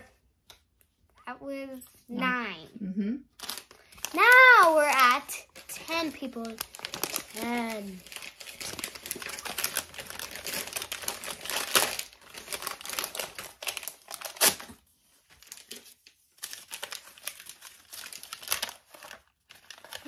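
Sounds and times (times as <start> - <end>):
paper bag crinkling: 3.4 - 20.0.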